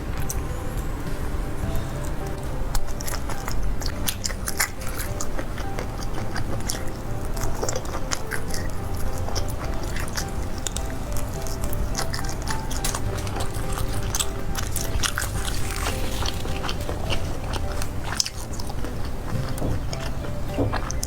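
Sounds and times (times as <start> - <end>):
crunchy chewing and biting: 0.0 - 21.0.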